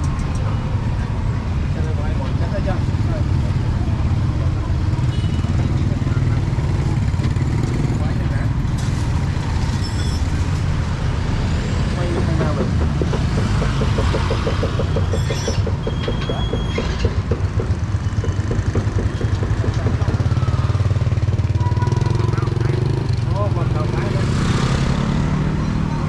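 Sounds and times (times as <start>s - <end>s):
motorbike engines humming: 0.0s - 26.0s.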